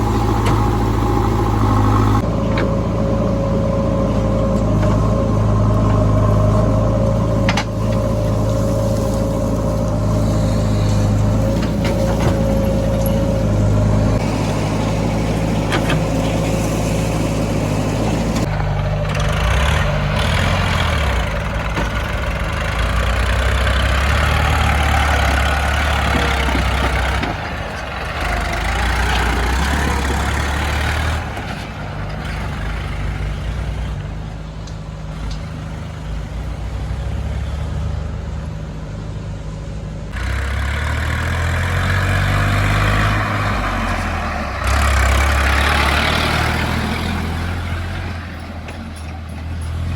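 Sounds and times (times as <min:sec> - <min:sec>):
heavy diesel machinery engines: 0:00.0 - 0:49.9.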